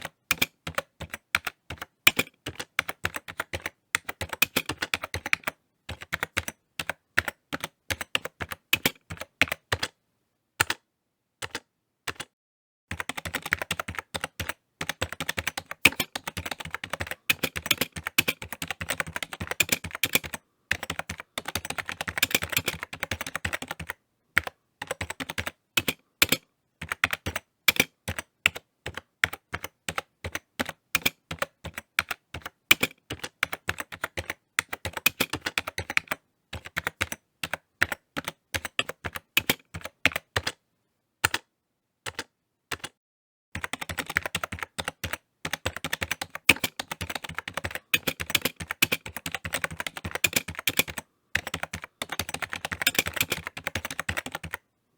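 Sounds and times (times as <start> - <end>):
typing on computer keyboard: 0.0 - 10.0, 10.6 - 10.8, 11.4 - 40.6, 41.2 - 41.5, 42.1 - 43.0, 43.6 - 54.6.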